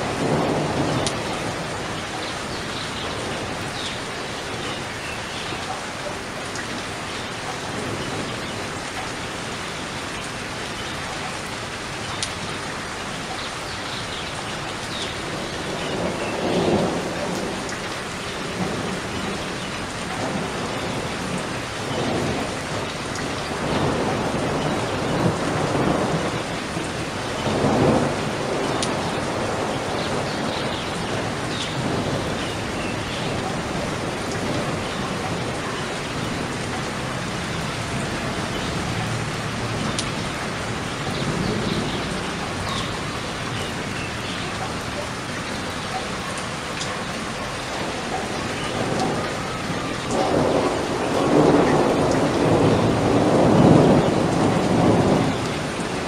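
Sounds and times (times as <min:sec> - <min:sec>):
low rumbles of thunder: 0:00.0 - 0:04.9, 0:15.1 - 0:45.0, 0:45.6 - 0:56.0
steady rain falling: 0:00.0 - 0:56.0.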